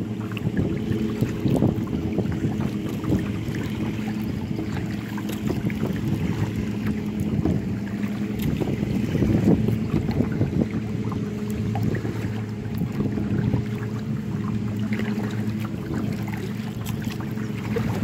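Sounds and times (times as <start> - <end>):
paddle water splashes: 0.0 - 18.0
wind buffeting microphone: 0.0 - 18.0.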